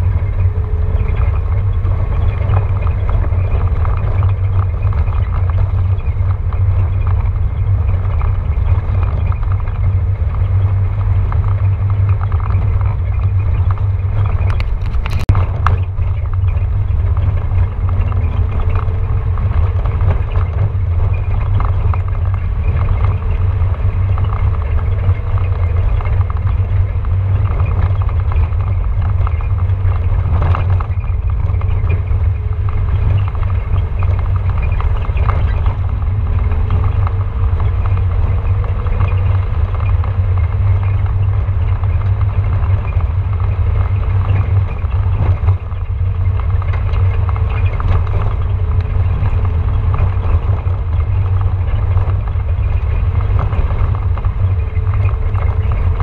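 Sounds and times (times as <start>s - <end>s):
off-road vehicle rumbling over gravel: 0.0s - 56.0s.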